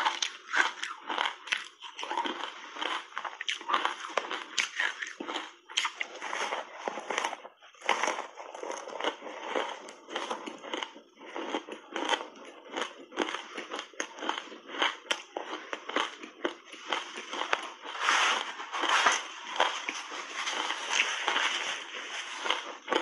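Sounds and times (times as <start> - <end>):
chewing and crunching ice: 0.0 - 23.0.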